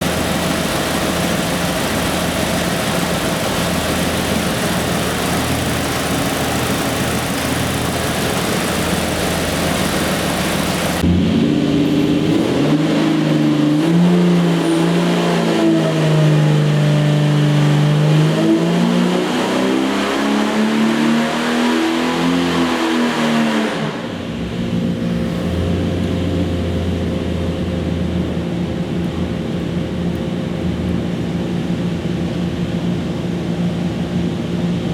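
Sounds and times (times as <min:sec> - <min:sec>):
engine revving on a dyno: 0:00.0 - 0:28.6.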